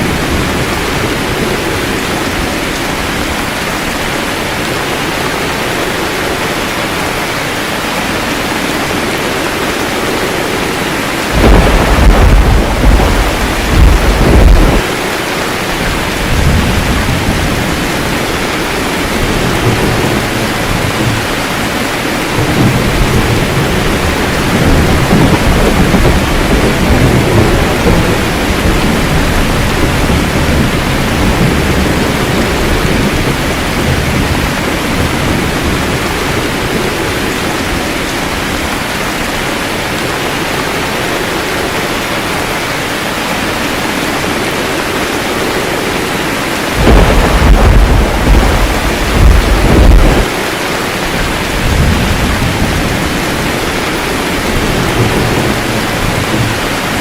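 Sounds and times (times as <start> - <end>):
rolling thunder rumble: 0.0 - 42.4, 43.9 - 57.0
steady rain: 0.0 - 57.0.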